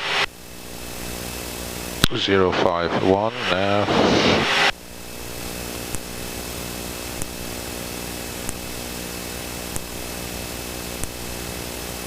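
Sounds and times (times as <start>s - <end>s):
jet engines droning: 0.0s - 12.0s.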